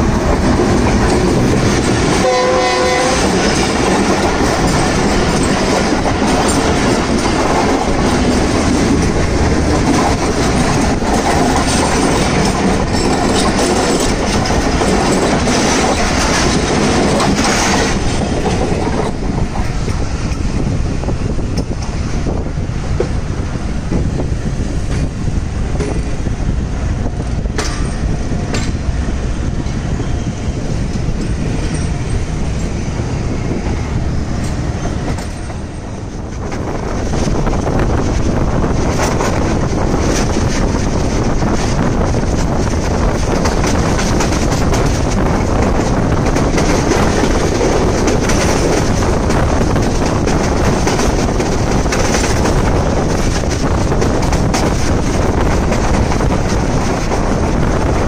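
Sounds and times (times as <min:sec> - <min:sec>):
train wheels clacking on rails: 0:00.0 - 0:58.0
wind rushing past: 0:00.0 - 0:58.0.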